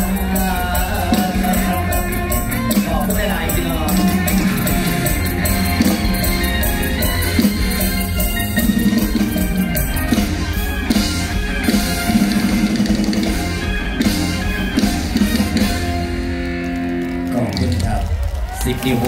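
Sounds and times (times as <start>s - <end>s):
drum-kit beat: 0.0s - 16.1s
bass: 0.0s - 19.0s
live band music over loudspeakers: 0.0s - 19.0s.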